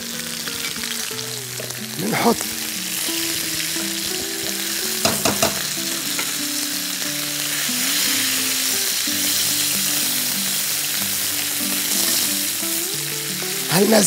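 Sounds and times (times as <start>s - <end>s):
chicken sizzling in oil: 0.0s - 14.0s
soft background music: 0.0s - 14.0s.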